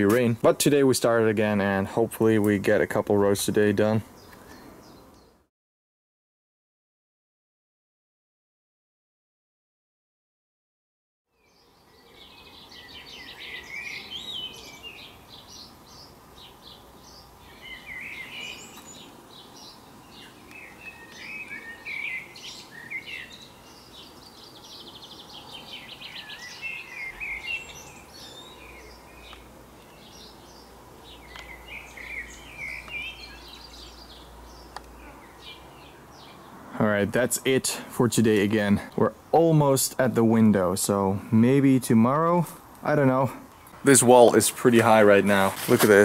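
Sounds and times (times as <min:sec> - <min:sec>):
songbirds warbling and chirping: 0:02.7 - 0:05.4, 0:11.3 - 0:45.5.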